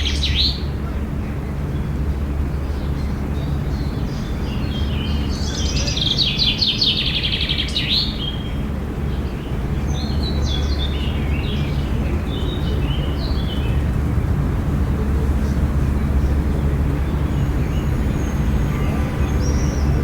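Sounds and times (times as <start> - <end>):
songbirds singing and chirping: 0.0 - 20.0.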